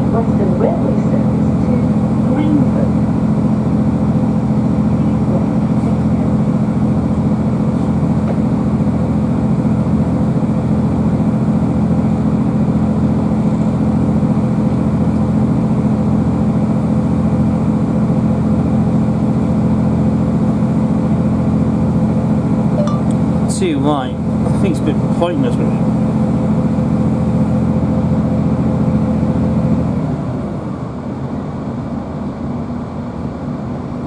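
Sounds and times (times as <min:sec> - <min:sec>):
train interior running drone: 0:00.0 - 0:34.0.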